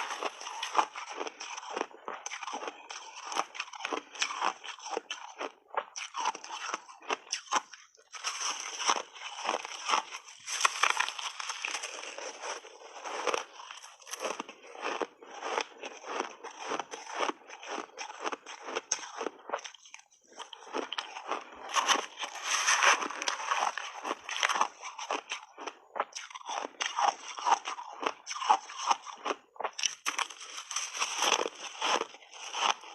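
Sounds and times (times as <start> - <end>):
person chewing crunchy ice: 0.0 - 32.9.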